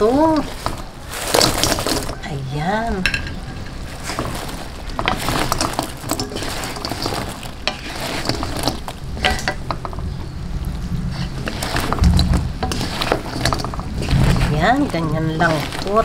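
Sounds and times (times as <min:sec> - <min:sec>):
wooden spatulas scraping a wok: 0:00.0 - 0:10.2, 0:11.0 - 0:16.0
hot syrup sizzling: 0:00.0 - 0:16.0.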